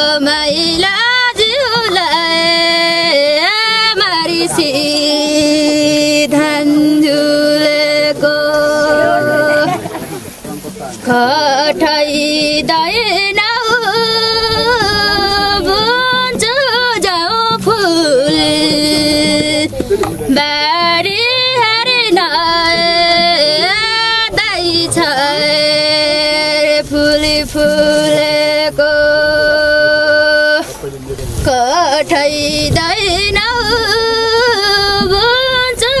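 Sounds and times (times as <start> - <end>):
woman singing folk song: 0.0 - 10.1, 11.0 - 36.0.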